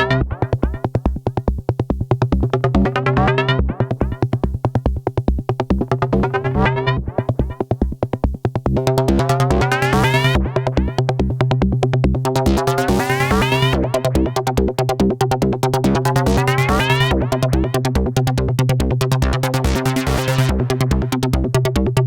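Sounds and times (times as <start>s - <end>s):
synthesizer bass sequence: 0.0s - 1.1s, 2.4s - 4.9s, 5.6s - 7.9s, 8.6s - 22.0s.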